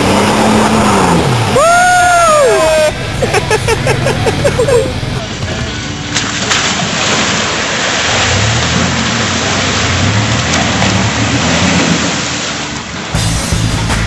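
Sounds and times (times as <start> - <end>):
water rushing and spraying: 0.0 - 13.9
truck engine running: 0.0 - 14.0.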